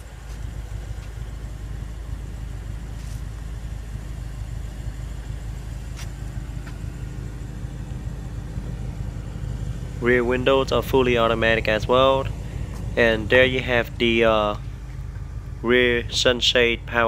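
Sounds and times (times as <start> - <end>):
faint constant hum: 0.0 - 17.0
low rumble: 0.0 - 17.0.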